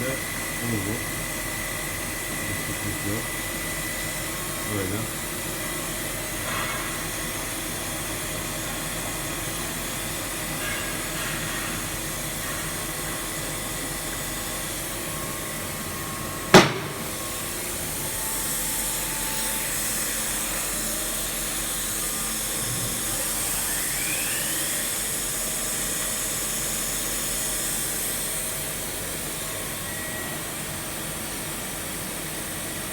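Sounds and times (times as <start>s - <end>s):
machine whirring and hiss: 0.0s - 32.9s.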